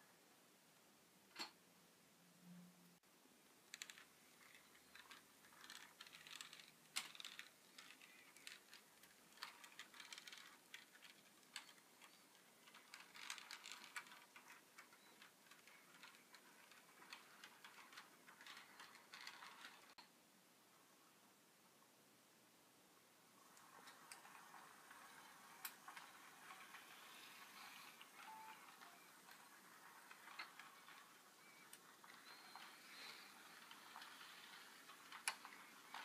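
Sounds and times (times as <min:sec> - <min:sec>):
model train wheels clicking on rails: 0:03.7 - 0:20.1, 0:23.4 - 0:36.0.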